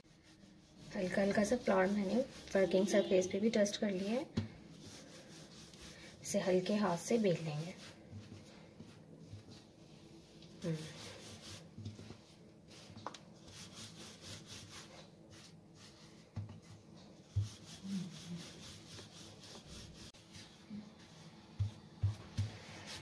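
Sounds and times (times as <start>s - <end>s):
rolling pin rubbing dough: 0.0s - 23.0s.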